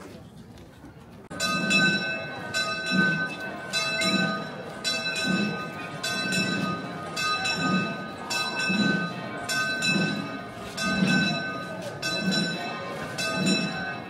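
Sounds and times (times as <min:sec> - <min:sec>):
church bells ringing: 0:01.3 - 0:14.0.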